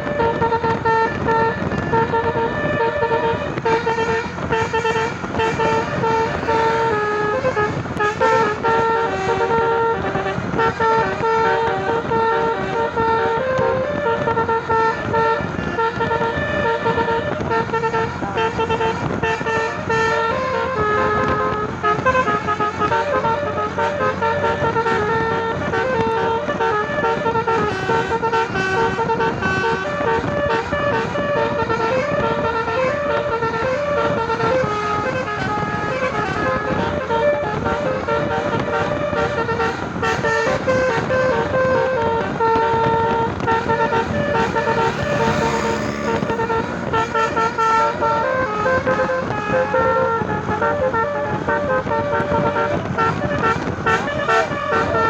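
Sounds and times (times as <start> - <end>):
musical air horn playing tune: 0.0 - 55.0
passing road traffic: 0.0 - 55.0.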